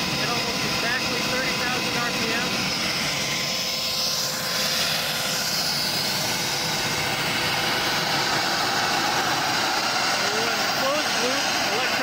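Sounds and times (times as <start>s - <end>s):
jet engine running steadily: 0.0s - 12.0s.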